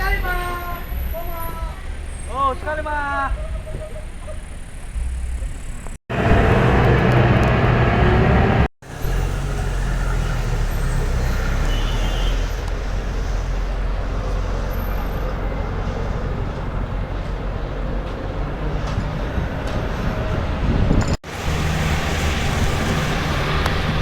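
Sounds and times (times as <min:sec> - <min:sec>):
bus engine rumble: 0:00.0 - 0:24.0
road traffic noise: 0:00.0 - 0:24.0.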